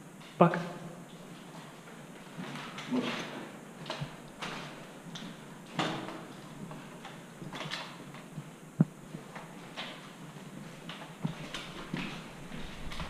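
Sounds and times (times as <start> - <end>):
footsteps in concrete stairwell: 1.0 - 13.0.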